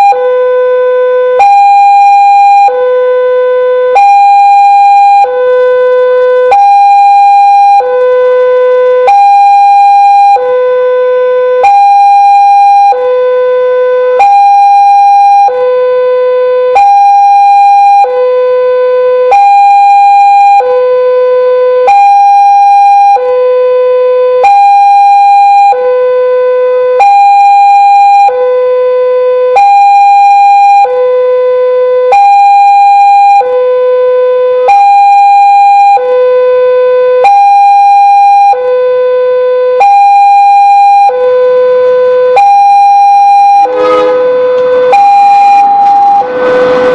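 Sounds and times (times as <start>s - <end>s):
level crossing two-tone alarm: 0.0s - 0.3s, 0.9s - 23.4s, 24.4s - 26.4s, 27.0s - 28.5s, 29.4s - 31.0s, 32.1s - 33.6s, 34.7s - 46.9s.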